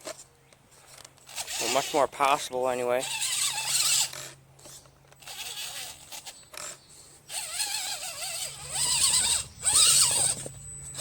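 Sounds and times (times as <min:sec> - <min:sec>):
toy car electric motor whining: 0:00.9 - 0:02.1, 0:03.0 - 0:11.0.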